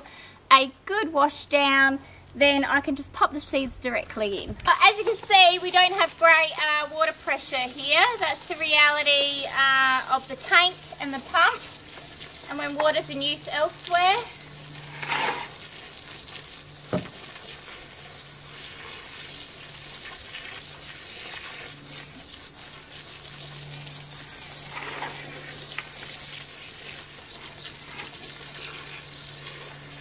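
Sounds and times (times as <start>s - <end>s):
hose water pattering on soil: 4.6s - 30.0s.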